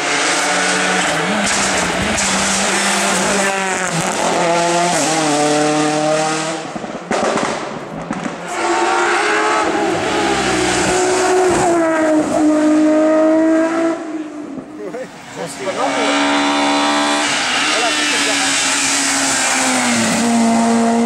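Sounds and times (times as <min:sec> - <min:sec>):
racing car engine at high revs: 0:00.0 - 0:21.0
rally car accelerating and upshifting: 0:00.0 - 0:21.0.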